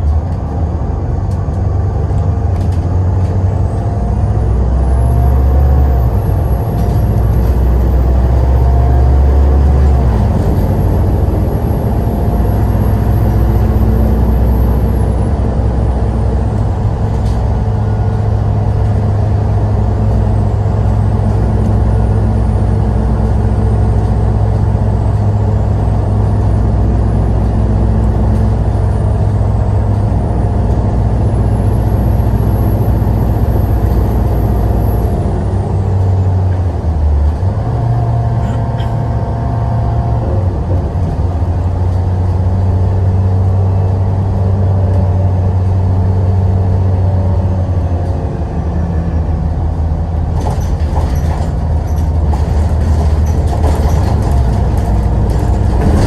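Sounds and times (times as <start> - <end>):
large vehicle engine rumbling: 0.0 - 56.0.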